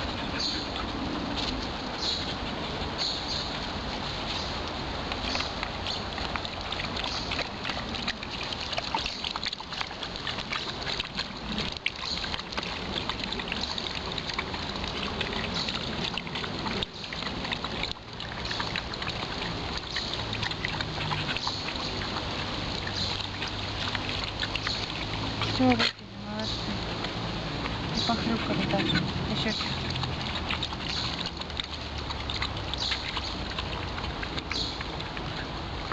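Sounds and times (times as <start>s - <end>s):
footsteps splashing through boggy ground: 0.0s - 35.9s.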